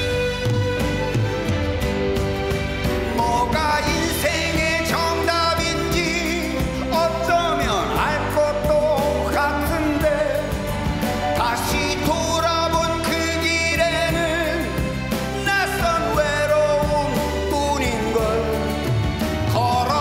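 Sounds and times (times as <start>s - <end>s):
instrumental backing music: 0.0s - 20.0s
man singing into a microphone: 3.1s - 20.0s.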